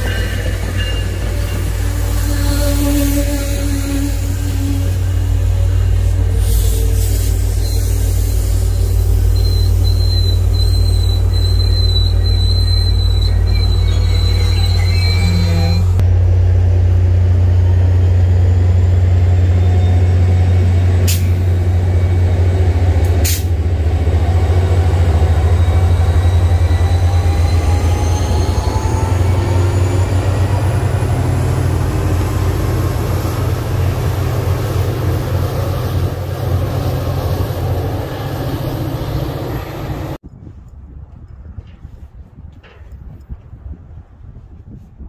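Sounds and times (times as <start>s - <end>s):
diesel locomotive drone: 0.0s - 44.9s.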